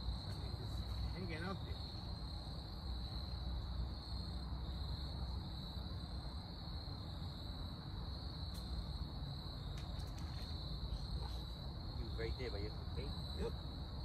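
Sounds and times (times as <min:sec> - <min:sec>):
insect chorus trilling: 0:00.0 - 0:14.0.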